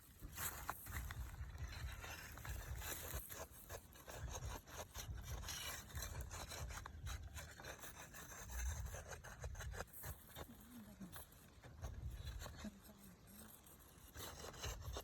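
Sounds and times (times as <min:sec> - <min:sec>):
scraping and rubbing strokes: 0:00.0 - 0:15.0.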